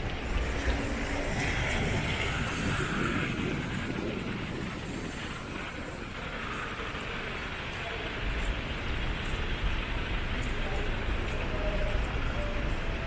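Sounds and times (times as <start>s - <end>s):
road traffic going by: 0.0s - 13.0s.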